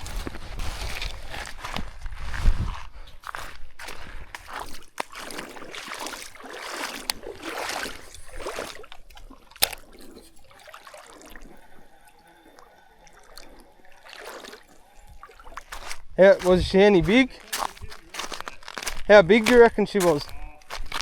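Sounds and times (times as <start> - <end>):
water sloshing and trickling: 0.0 - 21.0.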